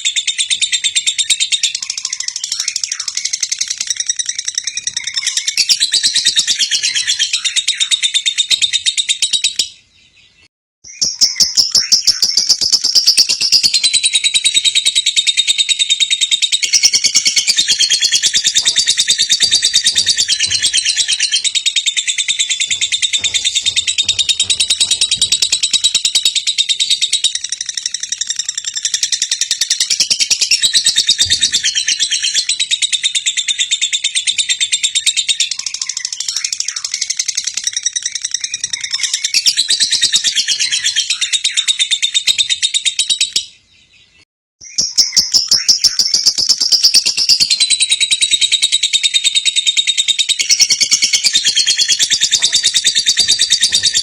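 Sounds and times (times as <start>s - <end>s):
lovebird chattering trill: 0.0s - 9.7s, 10.9s - 43.4s, 44.7s - 54.0s.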